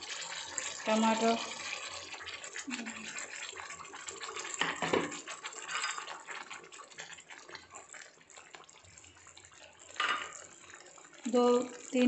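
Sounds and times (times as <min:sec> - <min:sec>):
paste sizzling in a pan: 0:00.0 - 0:12.0.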